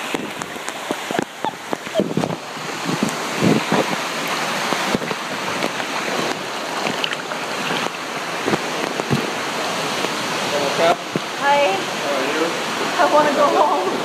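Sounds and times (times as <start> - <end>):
running water rushing: 0.0 - 14.0.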